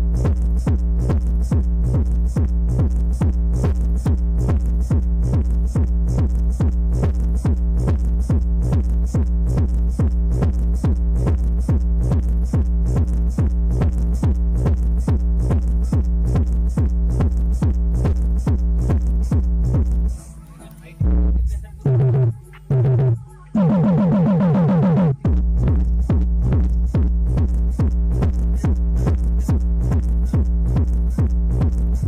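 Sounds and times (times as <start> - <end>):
fast kick-drum beat: 0.0 - 20.2, 21.0 - 32.0
electronic dance music: 0.0 - 32.0.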